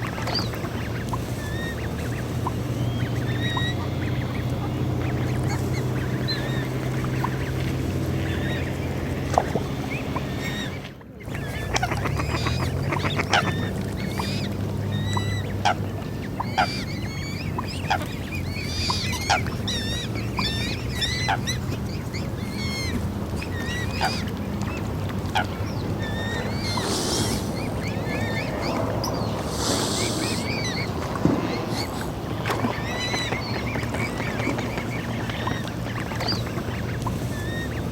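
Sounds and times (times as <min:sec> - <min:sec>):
waterfowl calling and honking: 0:00.0 - 0:37.9.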